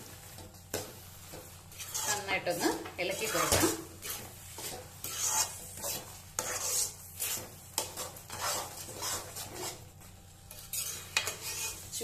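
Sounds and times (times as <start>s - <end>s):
metal spoon scraping thick paste: 1.7s - 9.9s, 10.5s - 12.0s.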